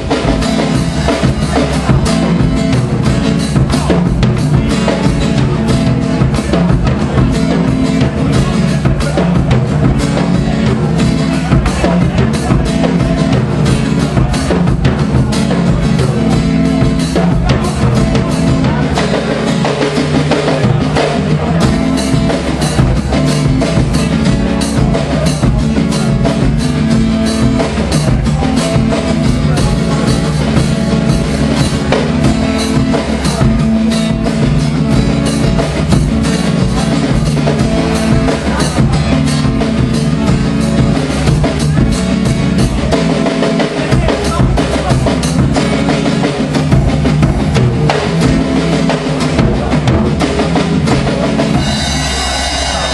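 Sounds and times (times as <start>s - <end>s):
acoustic guitar chords: 0.0s - 52.9s
drum kit beat: 0.0s - 52.9s.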